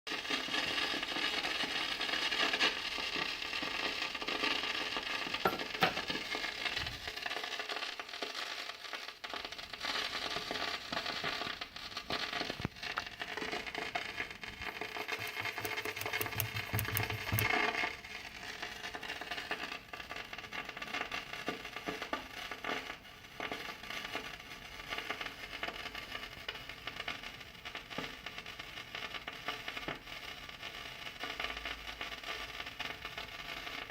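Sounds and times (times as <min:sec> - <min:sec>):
speaker static and crackling: 0:00.1 - 0:33.9.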